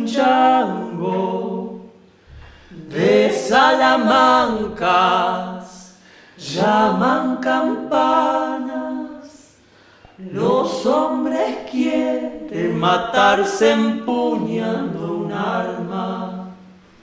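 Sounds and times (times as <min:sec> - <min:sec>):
man and woman singing in harmony: 0:00.0 - 0:17.0.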